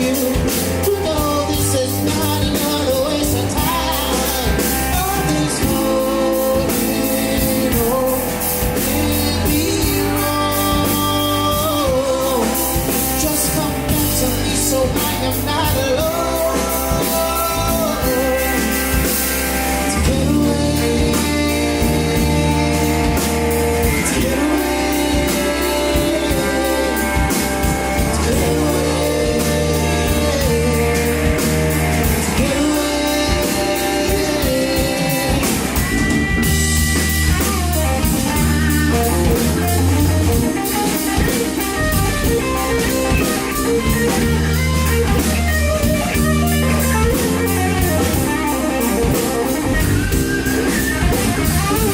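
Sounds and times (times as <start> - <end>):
drum kit beat: 0.0 - 51.9
electric guitar: 0.0 - 51.9
person singing: 0.0 - 51.9
rock band playing: 0.0 - 51.9.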